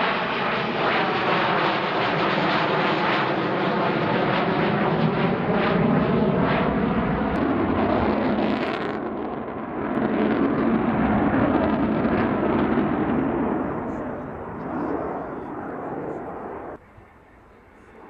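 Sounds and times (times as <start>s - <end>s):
jet bomber roaring overhead: 0.0s - 18.0s.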